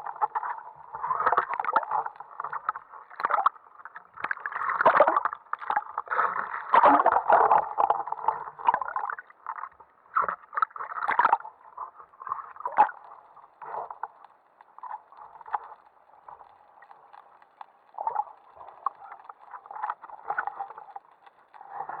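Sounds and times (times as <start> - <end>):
underwater bubbling and gurgling: 0.0 - 22.0.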